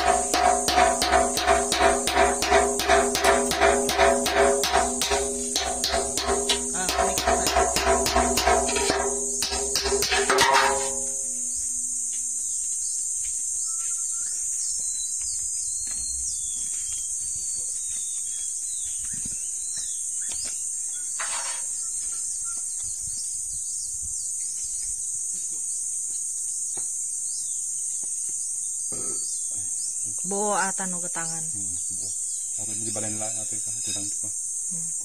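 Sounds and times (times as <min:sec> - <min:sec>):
insects chorus: 0:00.0 - 0:35.0.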